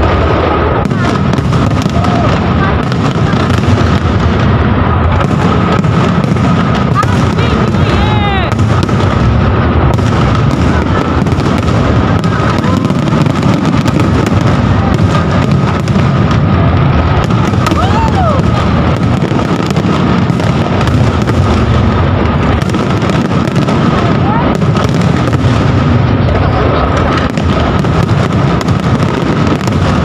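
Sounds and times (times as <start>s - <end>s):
firework whistling: 0.0s - 30.0s
fireworks bangs and crackling: 0.0s - 30.0s.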